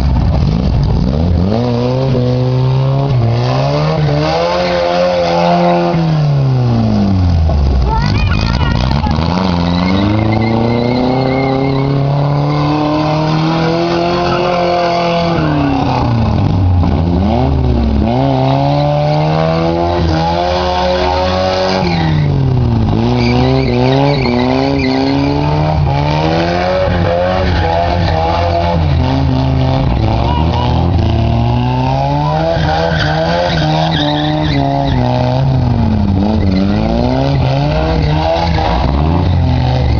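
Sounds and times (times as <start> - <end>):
racing engine revving: 0.0 - 39.9.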